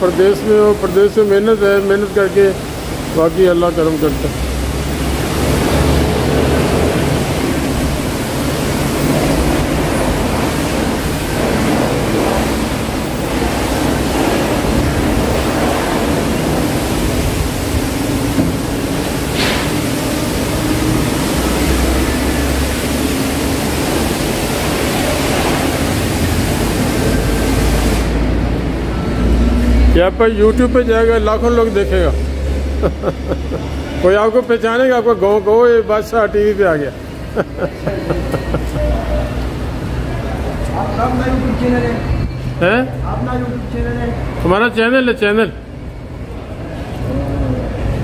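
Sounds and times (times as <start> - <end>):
car wash rushing noise: 0.0 - 48.0.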